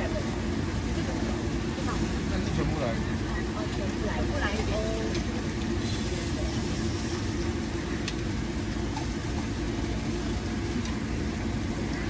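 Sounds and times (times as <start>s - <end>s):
mechanical rumble and hum: 0.0s - 12.0s.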